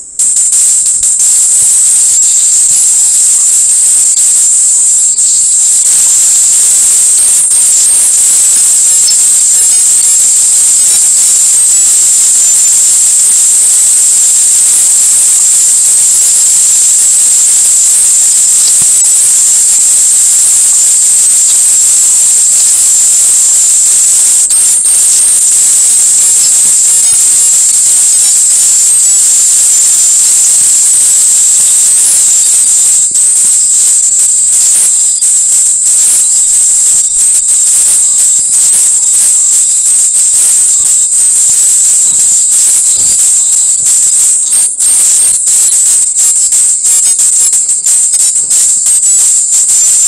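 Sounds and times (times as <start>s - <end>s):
high-pitched static hiss: 0.0s - 50.0s.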